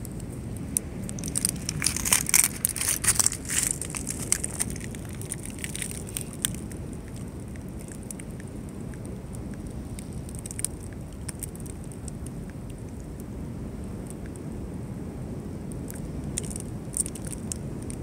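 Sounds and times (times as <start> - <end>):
faint crackling clicks: 0.0 - 13.3, 15.7 - 18.0
low rumble of seashore: 0.0 - 18.0.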